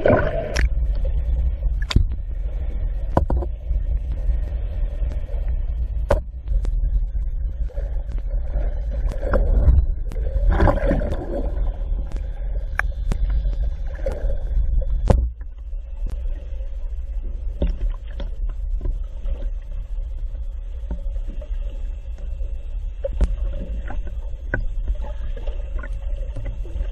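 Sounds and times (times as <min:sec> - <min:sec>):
muffled underwater rumble: 0:00.0 - 0:26.9.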